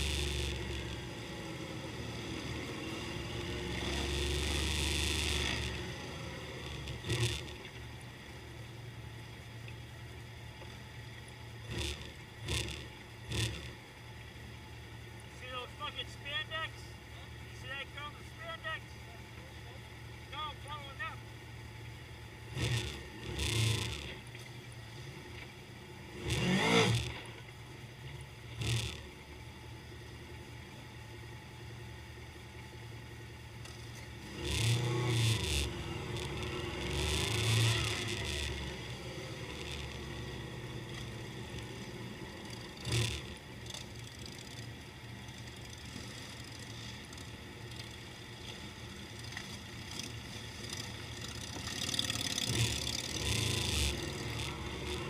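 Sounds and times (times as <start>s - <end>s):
motorcycles revving and passing: 0.0s - 15.3s, 18.4s - 55.0s
motorcycle engines idling: 0.0s - 55.0s.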